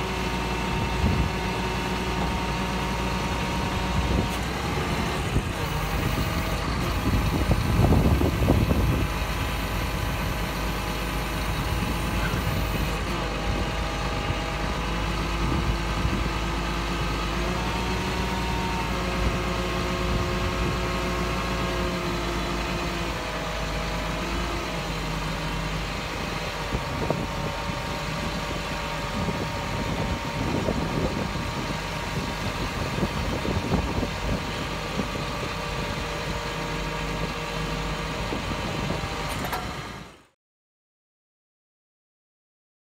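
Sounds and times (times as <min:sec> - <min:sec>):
diesel truck engine running: 0:00.0 - 0:40.3
hydraulic whine: 0:00.0 - 0:40.3.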